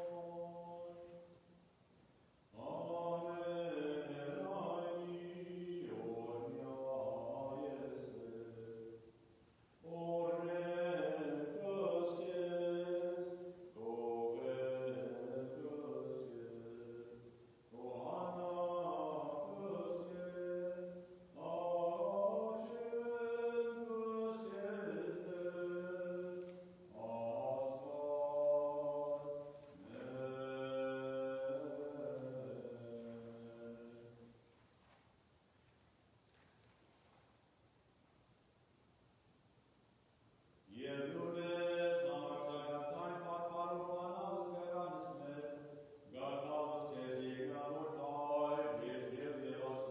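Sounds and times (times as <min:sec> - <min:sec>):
liturgical chant: 0:00.0 - 0:01.7, 0:02.4 - 0:34.7, 0:40.7 - 0:49.9.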